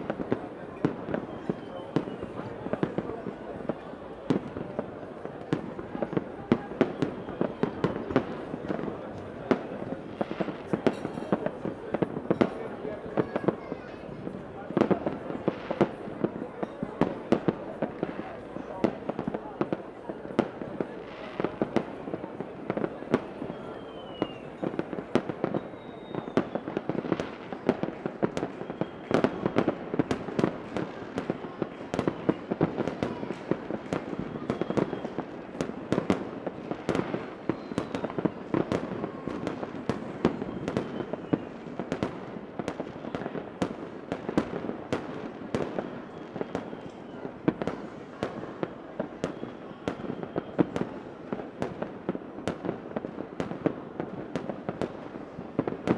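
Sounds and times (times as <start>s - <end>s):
faint fireworks whistles: 0.0s - 55.9s
fireworks bangs and crackles: 0.0s - 55.9s.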